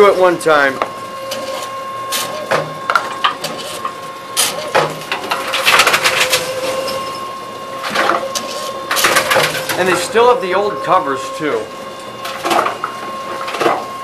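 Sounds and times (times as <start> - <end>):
vending machine humming: 0.0 - 14.0.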